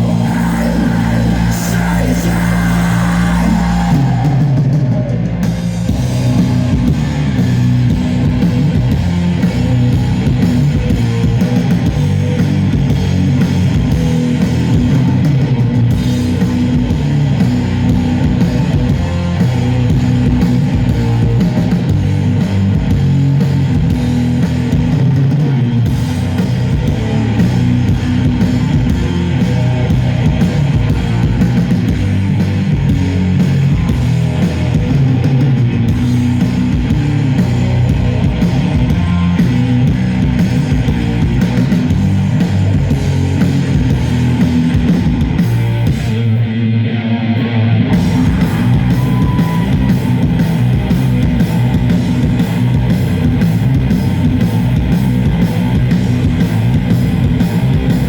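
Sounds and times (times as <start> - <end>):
metal band playing live: 0.0 - 58.0.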